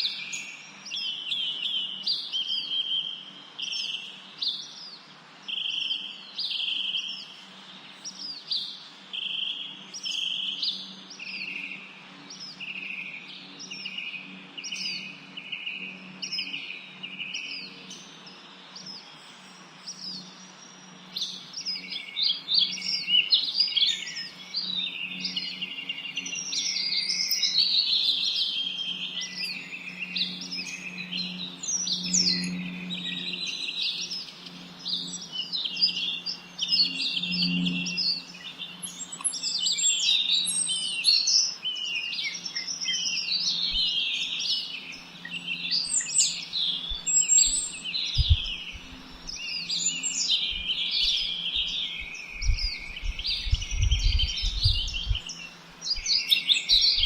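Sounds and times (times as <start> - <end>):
songbirds chirping: 0.0 - 57.0
steady low hum: 7.3 - 57.0.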